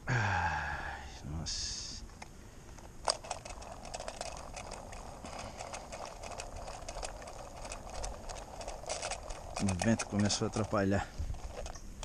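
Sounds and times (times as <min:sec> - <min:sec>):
light clicks and rattles: 0:02.0 - 0:12.0.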